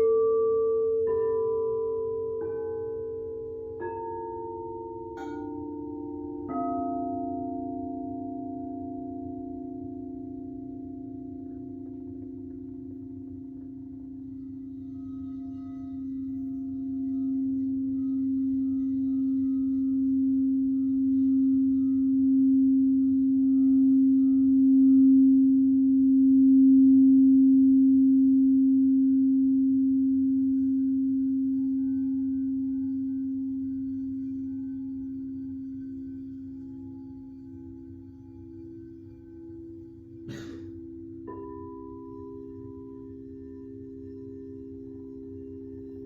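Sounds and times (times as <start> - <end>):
singing bowl humming: 0.0 - 46.0.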